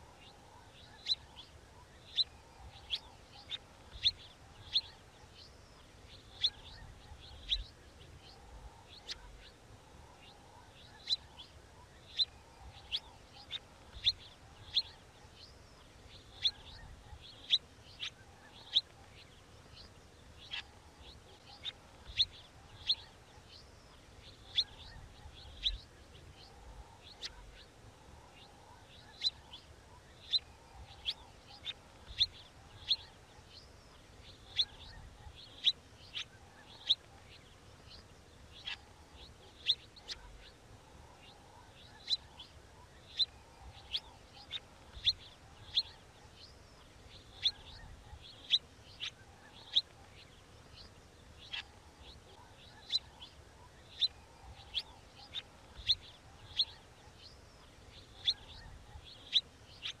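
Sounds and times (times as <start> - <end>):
songbird chirping: 0.0 - 60.0.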